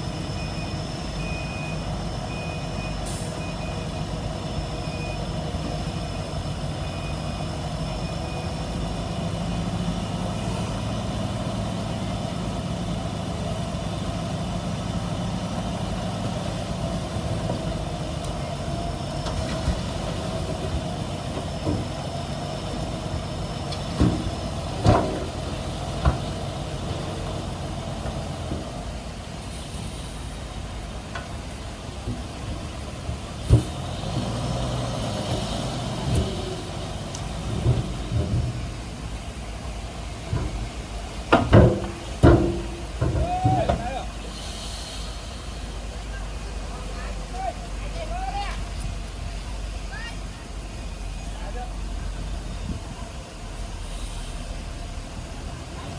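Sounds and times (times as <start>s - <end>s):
diesel machine engine running: 0.0s - 55.9s.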